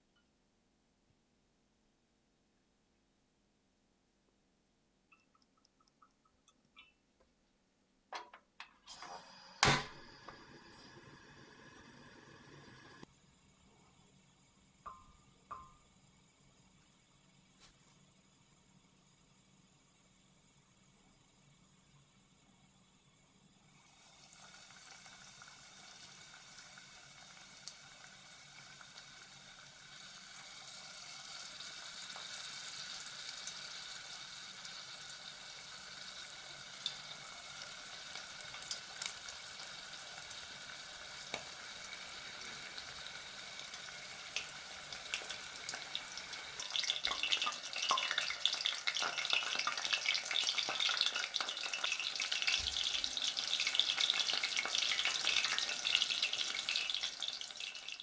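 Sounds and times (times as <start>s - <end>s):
shrimp deep-frying in oil: 9.2s - 58.0s.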